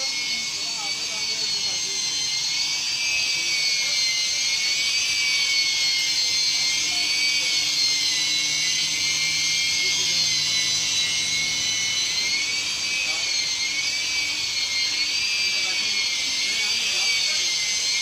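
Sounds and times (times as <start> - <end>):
polishing machine whine: 0.0 - 18.0.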